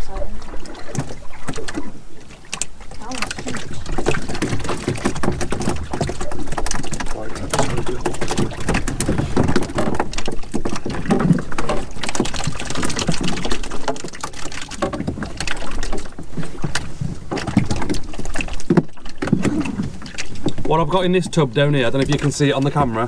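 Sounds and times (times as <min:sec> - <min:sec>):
knocks and clatter on boat: 0:00.0 - 0:23.0
water slapping hull: 0:00.0 - 0:23.0.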